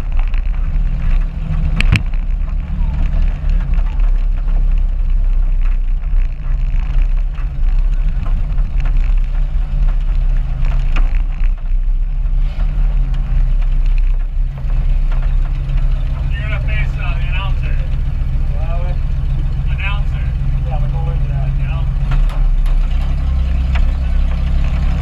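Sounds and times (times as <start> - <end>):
car engine droning: 0.0 - 25.0
knocks and rattles of car body: 0.0 - 25.0.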